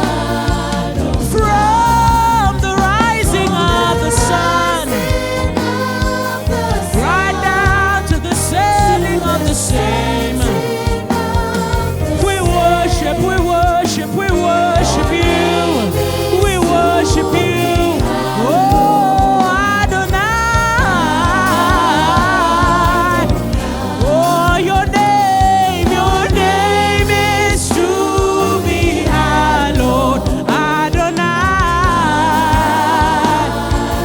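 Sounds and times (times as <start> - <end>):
instrumental backing with bass: 0.0 - 34.0
singers holding wavering notes: 0.0 - 34.0.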